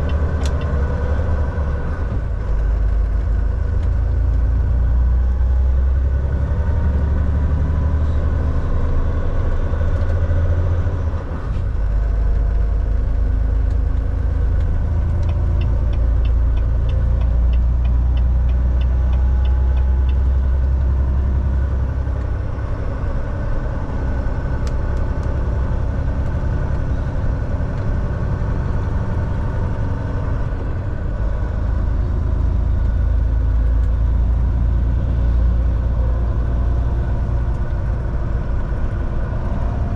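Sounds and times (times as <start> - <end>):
truck engine drone in cab: 0.0 - 39.9.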